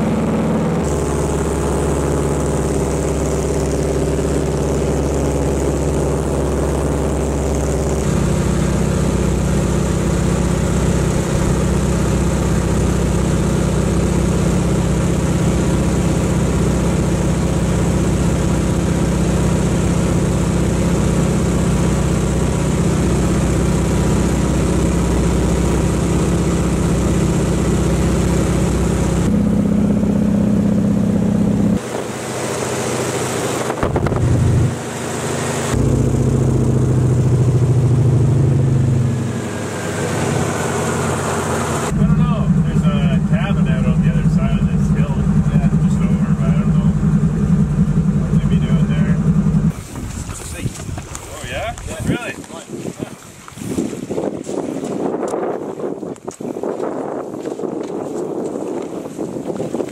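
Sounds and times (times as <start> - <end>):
floatplane engine and propeller: 0.0 - 59.9.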